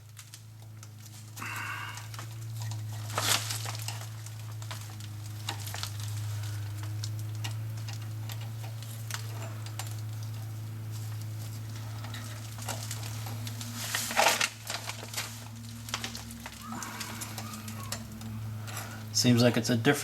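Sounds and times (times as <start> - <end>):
cable and clips clicking and rattling: 0.0 - 19.7
steady low hum: 0.0 - 20.0.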